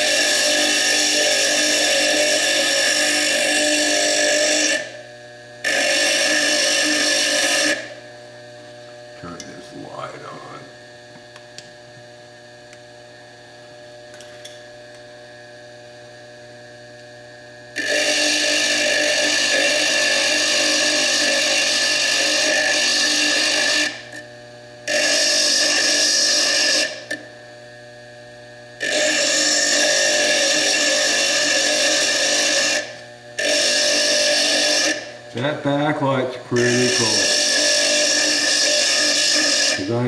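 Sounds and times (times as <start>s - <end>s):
bench lathe humming: 0.0s - 12.1s, 17.7s - 27.4s, 28.7s - 40.0s.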